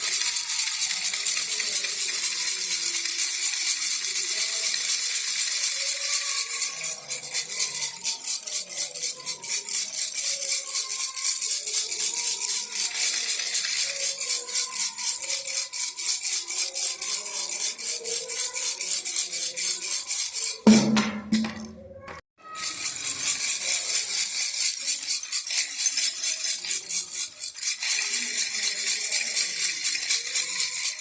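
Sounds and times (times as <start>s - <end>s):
baby rattle shaking: 0.0s - 21.7s, 22.4s - 31.0s.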